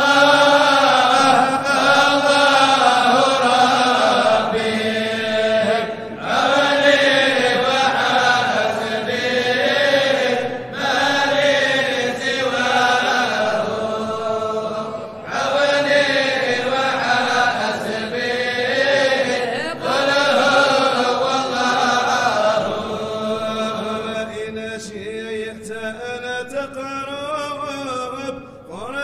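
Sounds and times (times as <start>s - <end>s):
person chanting melodically: 0.0s - 29.0s.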